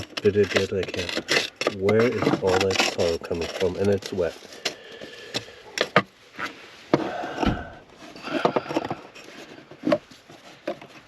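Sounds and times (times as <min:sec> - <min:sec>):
parts and wiring knocking and scraping: 0:00.0 - 0:11.0.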